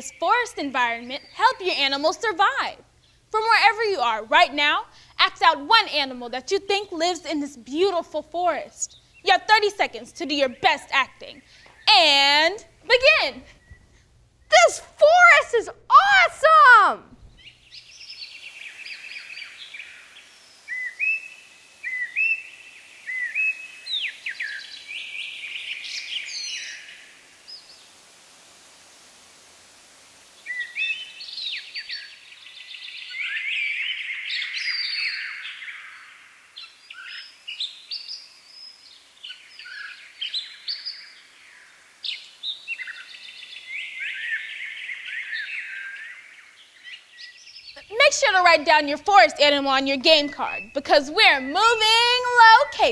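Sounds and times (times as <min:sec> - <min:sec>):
songbirds chirping and trilling: 0:00.0 - 0:14.6, 0:15.2 - 0:28.1, 0:30.1 - 0:52.9
faint steady hiss: 0:00.0 - 0:52.9.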